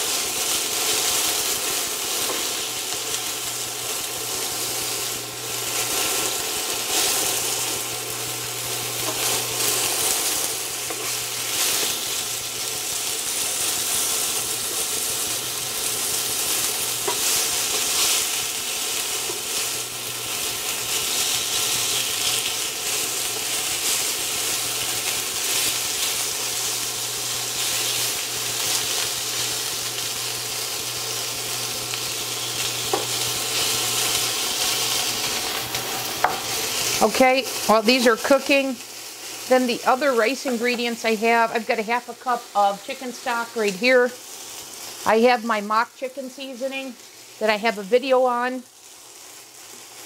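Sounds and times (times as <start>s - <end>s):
chicken sizzling in oil: 0.0s - 50.0s.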